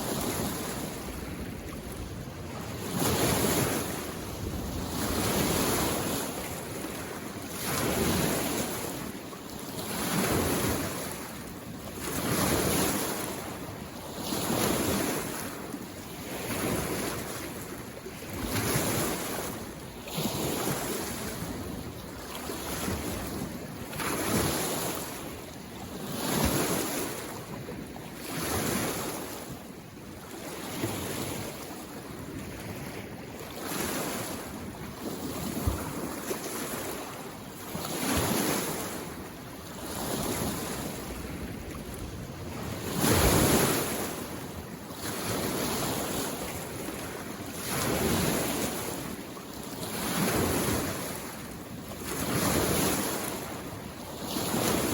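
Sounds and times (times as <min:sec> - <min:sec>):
small waves against shore: 0:00.0 - 0:54.9.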